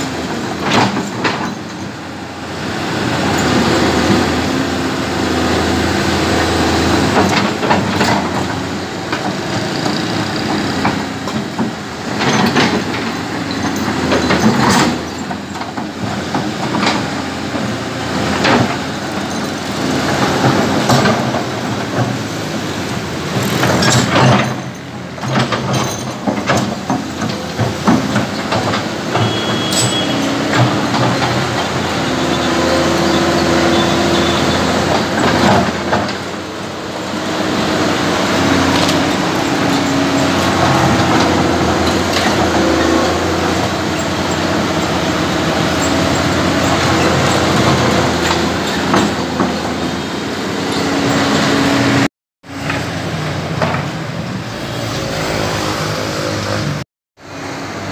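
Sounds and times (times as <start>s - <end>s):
excavator diesel engine: 0.0s - 57.9s.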